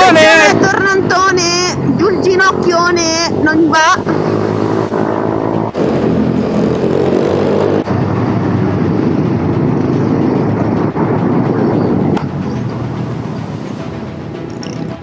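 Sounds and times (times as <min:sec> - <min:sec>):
motorbike engine running hard: 0:00.0 - 0:15.0.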